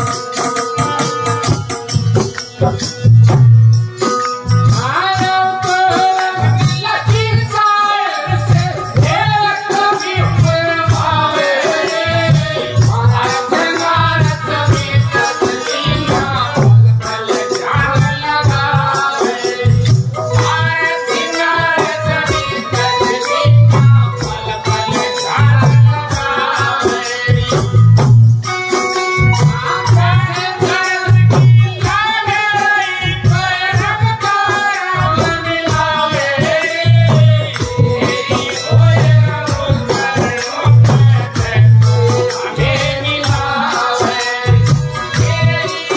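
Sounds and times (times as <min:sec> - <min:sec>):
man singing: 0:04.6 - 0:28.1, 0:29.2 - 0:45.9.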